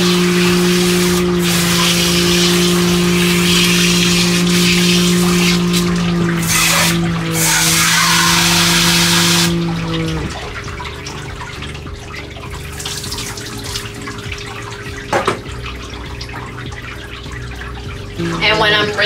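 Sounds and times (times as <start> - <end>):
hose spraying water into metal tub: 0.0 - 19.0
steady hum: 0.0 - 19.0.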